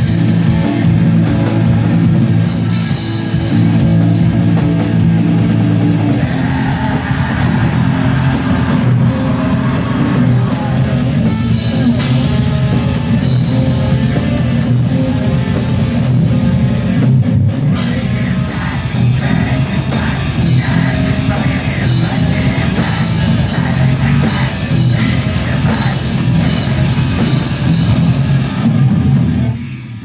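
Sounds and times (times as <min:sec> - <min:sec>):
distorted electric guitars: 0:00.0 - 0:30.0
drum kit with rapid cymbals: 0:00.0 - 0:30.0.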